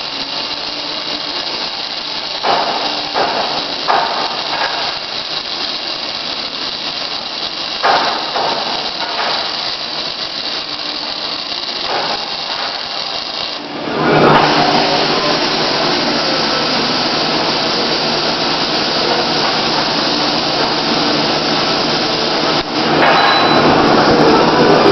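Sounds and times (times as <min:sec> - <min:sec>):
welding arc hissing: 0:00.0 - 0:24.9.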